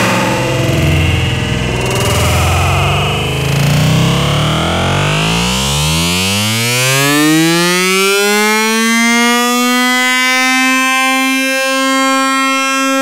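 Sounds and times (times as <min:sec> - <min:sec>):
buzzy synthesizer note: 0:00.0 - 0:13.0.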